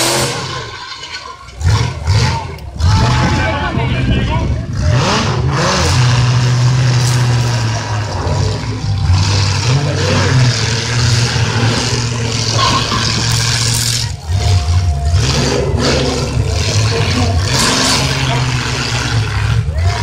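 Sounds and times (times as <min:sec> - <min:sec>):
car engines revving hard: 0:00.0 - 0:20.0.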